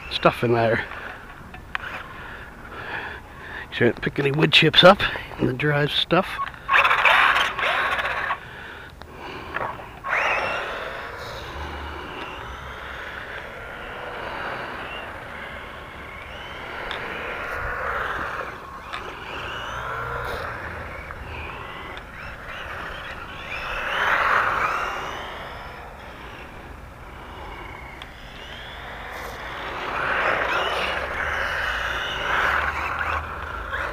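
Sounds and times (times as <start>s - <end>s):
toy electric motor whining: 0.0s - 3.4s, 6.3s - 33.9s.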